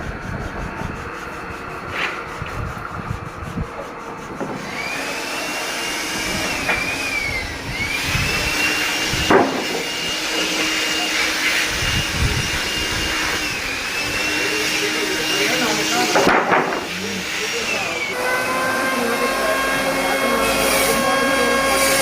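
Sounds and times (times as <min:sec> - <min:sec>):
band saw whine: 0:00.0 - 0:22.0.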